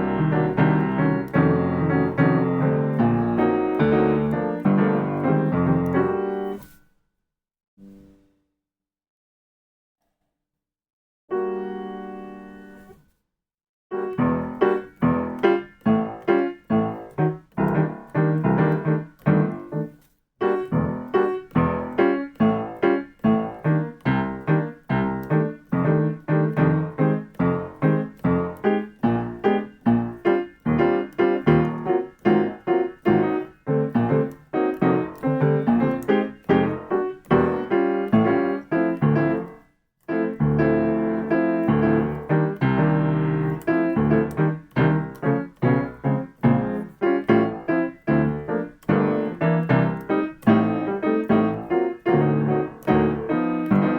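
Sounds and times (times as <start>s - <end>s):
jazz piano chords: 0.0s - 6.8s, 13.9s - 53.9s.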